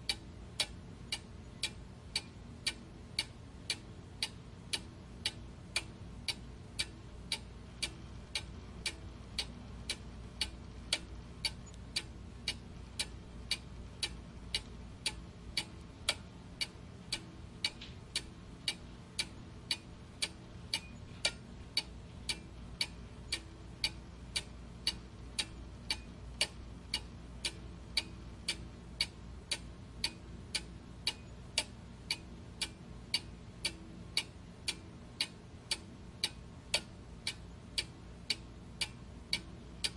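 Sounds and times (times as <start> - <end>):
faint low hum: 0.0 - 39.9
steady ticking: 0.0 - 39.9.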